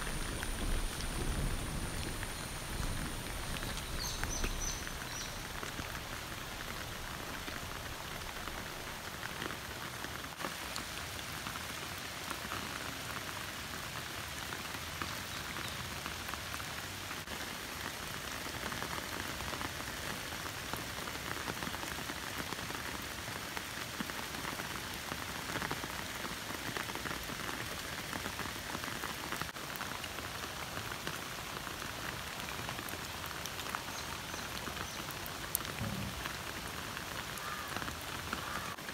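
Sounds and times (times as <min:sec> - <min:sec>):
rain falling on puddle and grass: 0:00.0 - 0:38.9.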